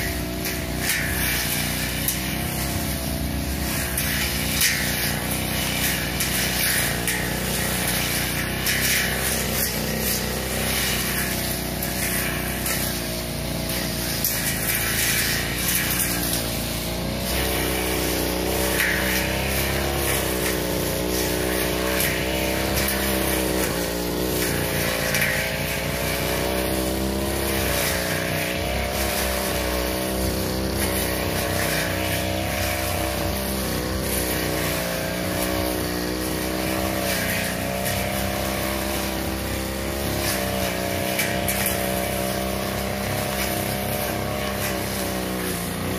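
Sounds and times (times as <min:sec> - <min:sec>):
brush cutter cutting grass: 0:00.0 - 0:45.9.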